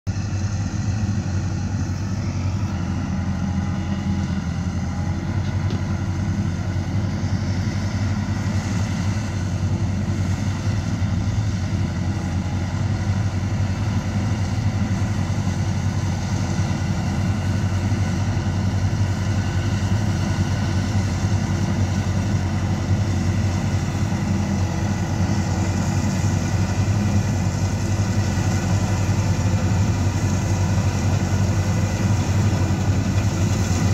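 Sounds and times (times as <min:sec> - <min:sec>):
combine harvester engine hum: 0:00.0 - 0:33.9.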